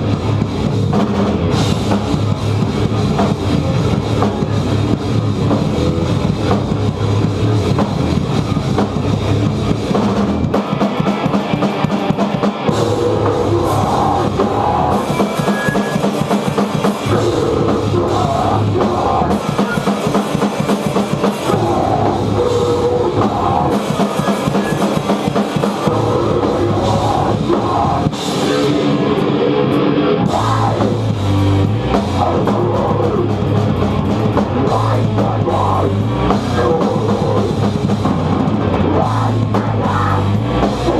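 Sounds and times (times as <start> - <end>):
drum kit: 0.0 - 40.9
rock band playing: 0.0 - 40.9.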